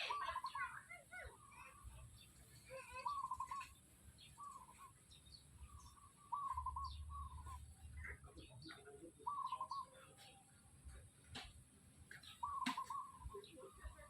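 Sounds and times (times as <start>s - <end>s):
chickens warbling trills: 0.0s - 10.3s, 12.3s - 14.0s.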